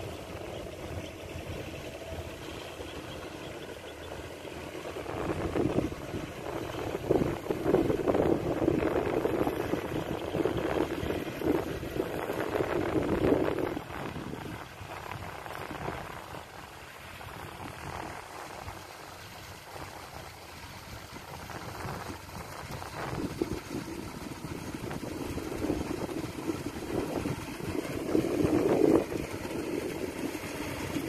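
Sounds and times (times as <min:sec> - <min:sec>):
machine engines running: 0:00.0 - 0:31.0.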